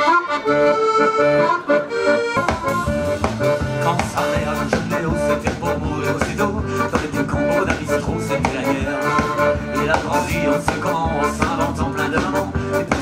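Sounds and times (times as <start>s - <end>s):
accordion playing lively tune: 0.0s - 13.0s
drum kit beat: 2.3s - 13.0s.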